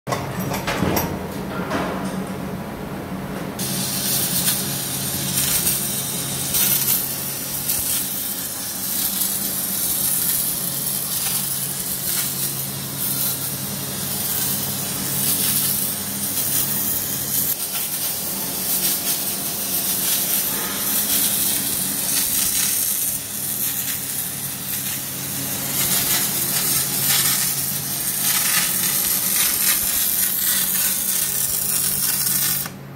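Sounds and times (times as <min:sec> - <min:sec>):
welding arc crackling hiss: 0:03.6 - 0:32.8.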